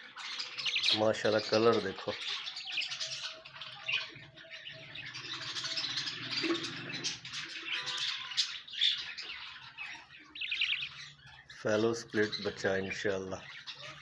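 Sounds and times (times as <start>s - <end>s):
budgerigars chirping and chattering: 0.0s - 14.0s.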